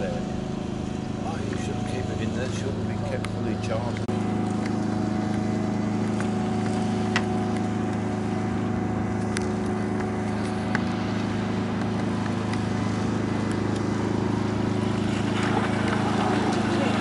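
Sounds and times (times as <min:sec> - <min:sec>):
steady engine-like drone: 0:00.0 - 0:17.0.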